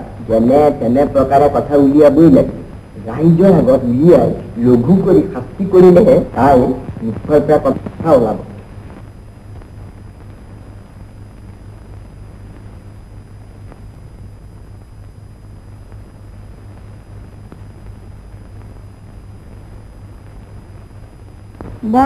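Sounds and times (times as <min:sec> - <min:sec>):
film soundtrack hum and hiss: 0:00.0 - 0:22.0
faint crackles: 0:02.4 - 0:22.0.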